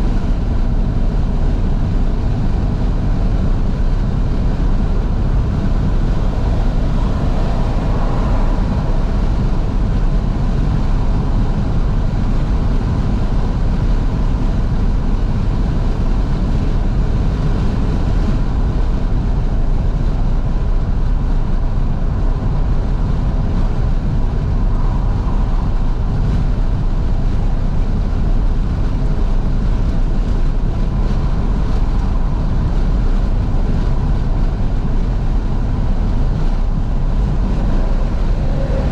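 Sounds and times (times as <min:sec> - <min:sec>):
car engine running: 0:00.0 - 0:38.9
wind and road noise: 0:00.0 - 0:38.9.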